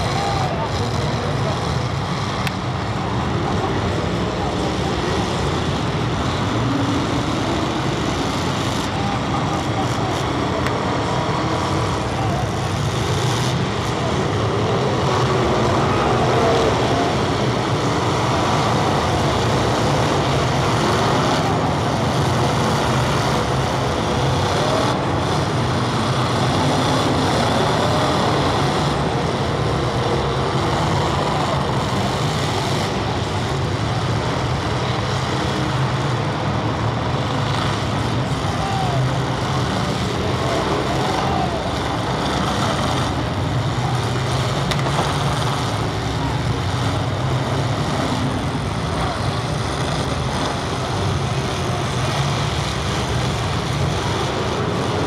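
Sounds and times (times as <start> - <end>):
many car engines running: 0.0 - 55.0.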